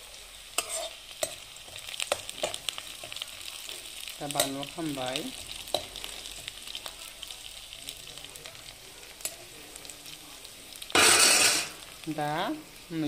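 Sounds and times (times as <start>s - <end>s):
food frying in a pan: 0.0s - 13.0s.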